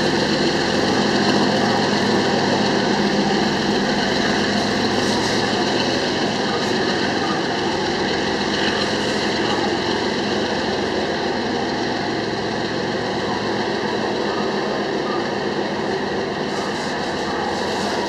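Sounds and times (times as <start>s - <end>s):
steel wheels rolling on rail: 0.0s - 18.0s.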